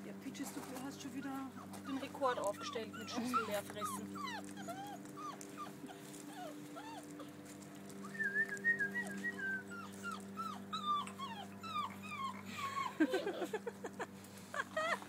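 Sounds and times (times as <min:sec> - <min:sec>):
low hum: 0:00.1 - 0:15.0
puppies whimpering and squeaking: 0:00.6 - 0:13.8, 0:14.6 - 0:15.0.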